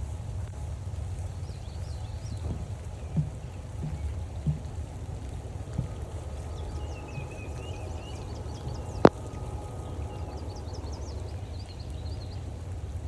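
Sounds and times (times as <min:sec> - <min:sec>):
rain falling in woodland: 0:00.0 - 0:13.0
small birds chirping: 0:01.2 - 0:13.0.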